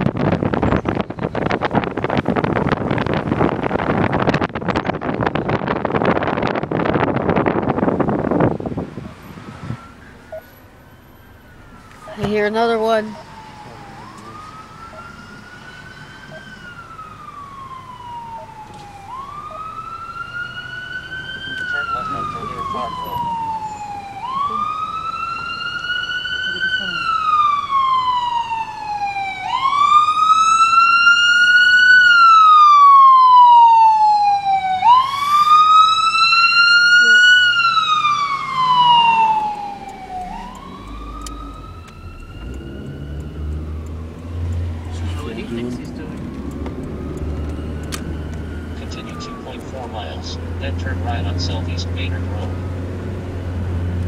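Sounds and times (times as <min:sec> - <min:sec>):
emergency siren wailing: 0:00.1 - 0:54.0.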